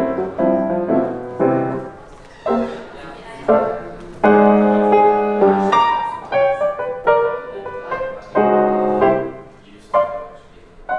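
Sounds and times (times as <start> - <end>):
piano chords ringing: 0.0 - 10.9.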